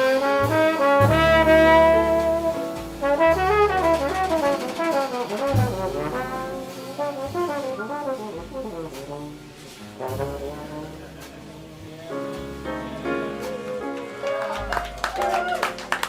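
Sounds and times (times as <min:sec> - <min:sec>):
trombone: 0:00.0 - 0:14.9
jazz ensemble playing a ballad: 0:00.0 - 0:16.0.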